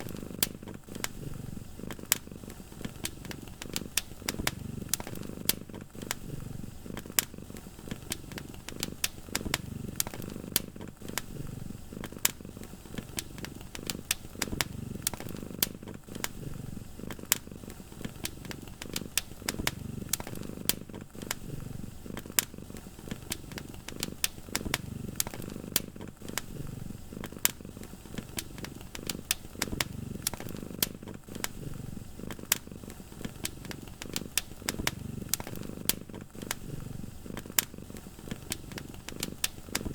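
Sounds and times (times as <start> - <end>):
cat purring: 0.0 - 39.9
wood fire crackling and popping: 0.0 - 39.9.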